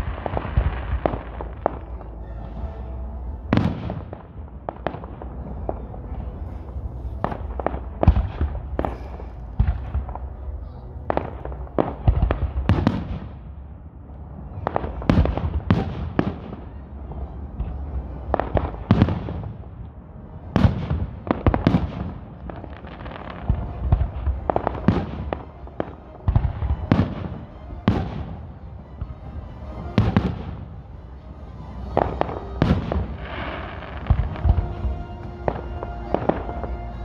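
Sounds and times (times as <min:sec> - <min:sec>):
fireworks bursting with sharp bangs: 0:00.0 - 0:02.8, 0:03.4 - 0:13.6, 0:14.6 - 0:19.8, 0:20.5 - 0:30.8, 0:31.7 - 0:37.0.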